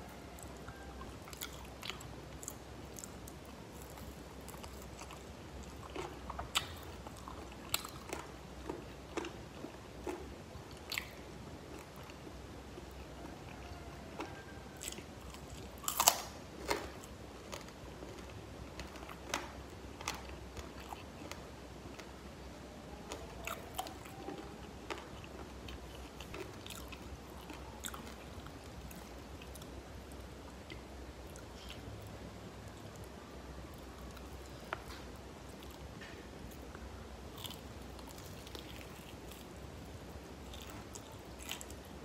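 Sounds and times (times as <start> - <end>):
crunchy chewing of fried chicken: 0.0 - 42.0.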